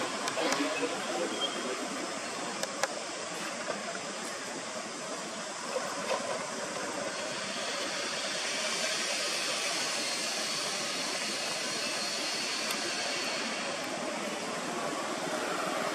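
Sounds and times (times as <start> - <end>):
steady background hiss: 0.0 - 15.9.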